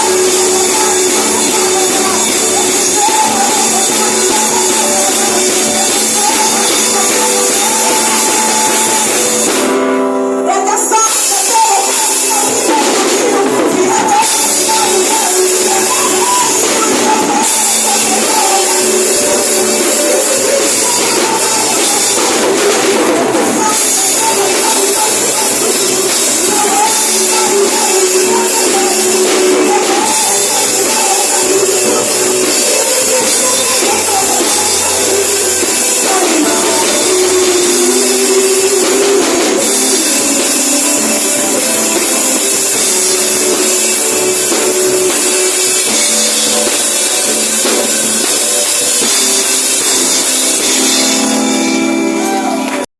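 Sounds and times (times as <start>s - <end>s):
drums: 0.0s - 52.9s
worship band playing: 0.0s - 52.9s.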